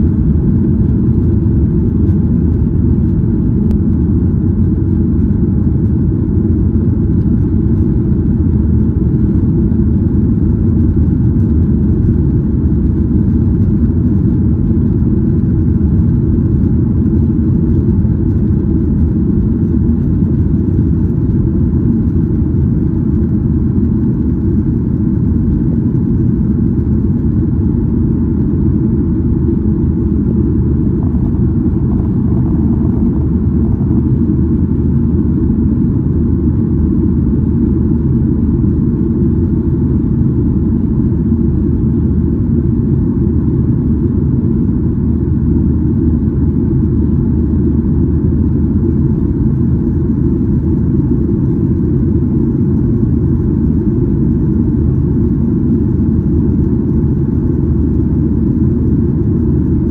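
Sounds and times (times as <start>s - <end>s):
airplane cabin engine noise: 0.0s - 59.9s.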